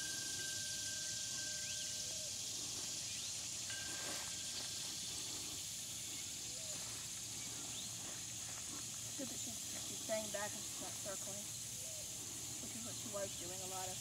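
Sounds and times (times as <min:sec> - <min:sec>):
faint steady tone: 0:00.0 - 0:14.0
high hiss: 0:00.0 - 0:14.0.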